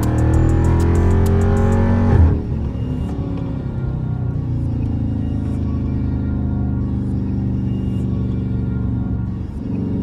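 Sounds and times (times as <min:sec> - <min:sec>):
car engine rumbling while driving: 0:00.0 - 0:10.0
music playing: 0:00.0 - 0:10.0.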